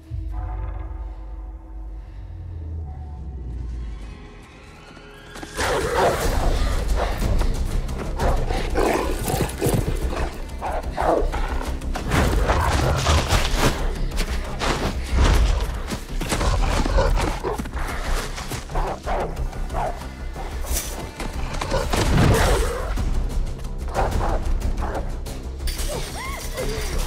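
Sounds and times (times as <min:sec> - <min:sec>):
tense score music: 0:00.0 - 0:27.0.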